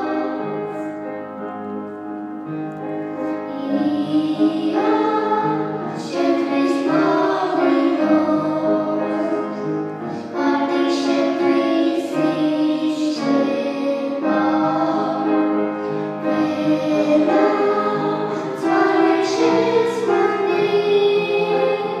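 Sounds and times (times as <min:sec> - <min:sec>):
children singing into microphones: 0:00.0 - 0:01.5, 0:03.1 - 0:22.0.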